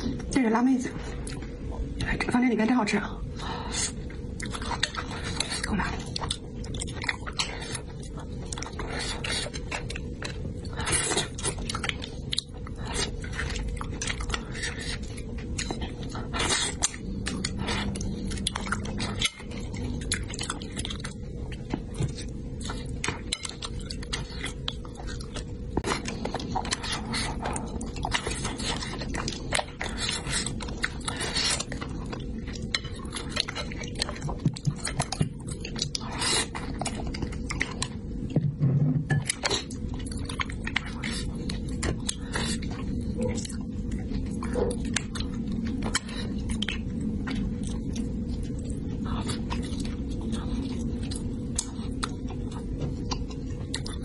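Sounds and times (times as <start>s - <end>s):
low background hum: 0.0s - 54.0s
wet chewing and smacking: 1.0s - 2.2s, 3.7s - 38.4s, 39.1s - 54.0s.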